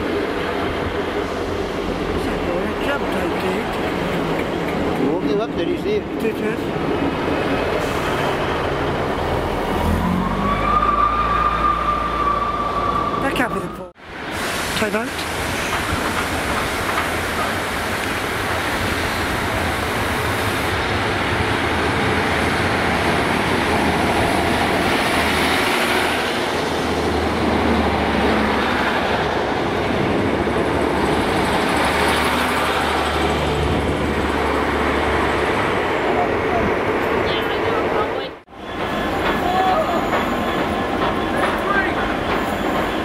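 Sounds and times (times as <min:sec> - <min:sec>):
train wheels on rail: 0:00.0 - 0:43.0.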